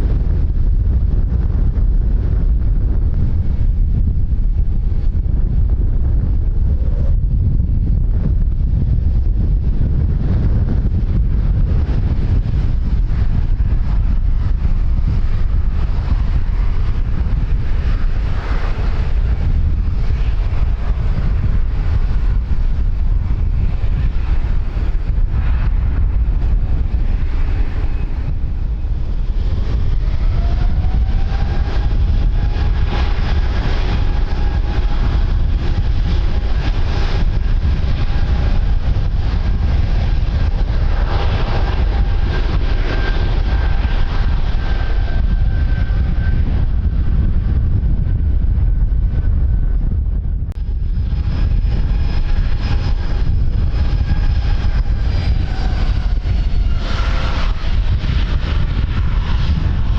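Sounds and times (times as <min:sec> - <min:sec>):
jet engine whine: 0:00.0 - 0:59.9
wind buffeting microphone: 0:00.0 - 0:59.9.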